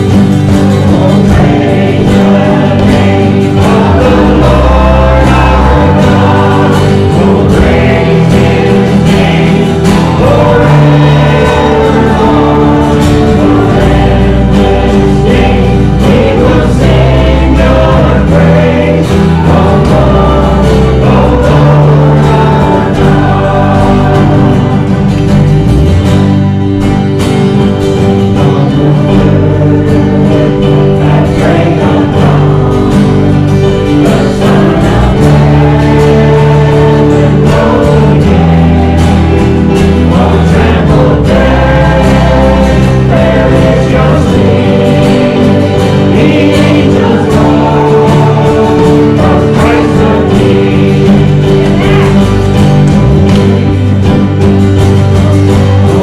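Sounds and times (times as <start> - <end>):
guitar accompaniment: 0.0 - 56.0
voices singing together: 0.0 - 56.0.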